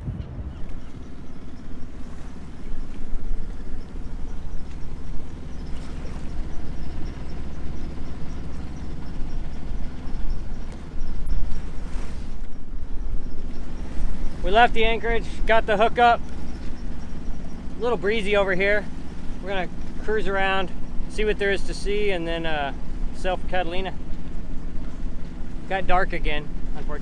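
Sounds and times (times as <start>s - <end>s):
wind buffeting microphone: 0.0s - 26.8s
boat engine running: 0.0s - 27.0s.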